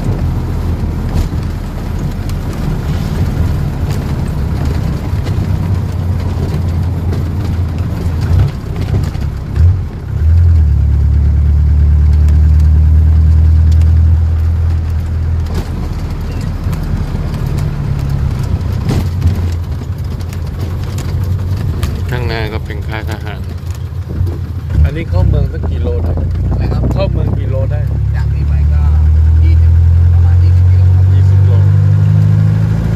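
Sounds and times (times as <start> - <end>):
road noise: 0.0 - 32.9
truck engine drone: 0.0 - 32.9.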